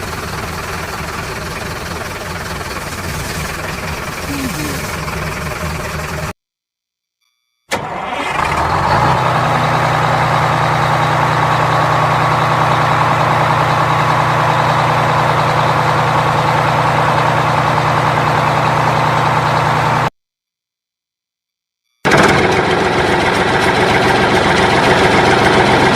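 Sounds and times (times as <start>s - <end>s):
engine idling: 0.0s - 6.4s, 7.8s - 20.1s, 22.1s - 25.9s.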